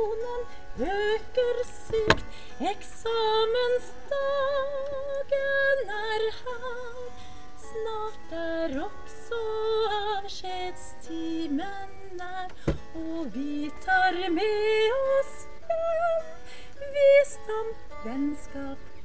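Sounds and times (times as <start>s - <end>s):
woman singing: 0.0s - 19.0s.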